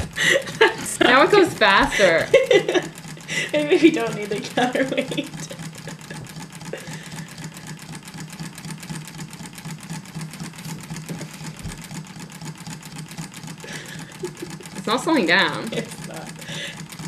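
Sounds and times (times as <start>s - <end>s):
engine mechanism clicking rapidly: 0.0s - 17.0s.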